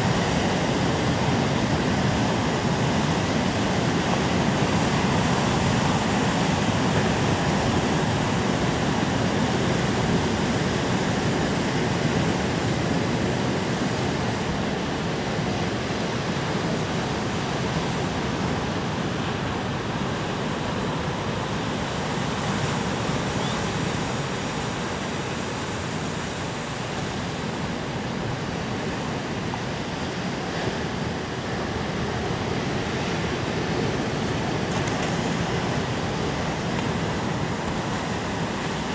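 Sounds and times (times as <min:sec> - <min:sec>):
ocean surf on rocky shore: 0:00.0 - 0:38.9.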